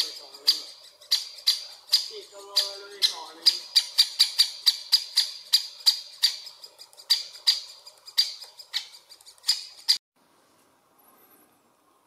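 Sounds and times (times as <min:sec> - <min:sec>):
woodpecker sharp high calls: 0:00.0 - 0:10.0.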